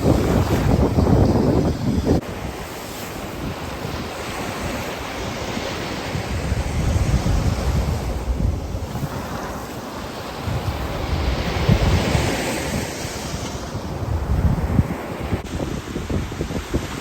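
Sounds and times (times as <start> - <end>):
ocean surf washing ashore: 0.0 - 17.0
wind buffeting microphone: 0.0 - 17.0.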